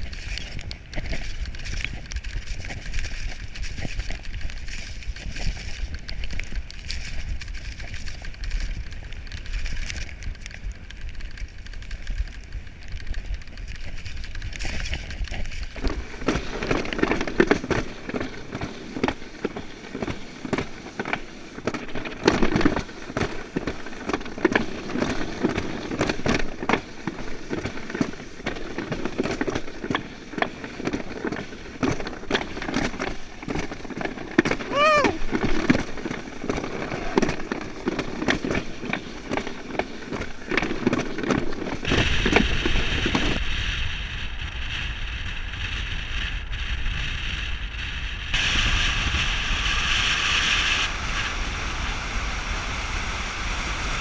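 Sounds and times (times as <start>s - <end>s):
toboggan sled clattering: 0.0s - 43.8s
bike rolling on gravel: 0.0s - 54.0s.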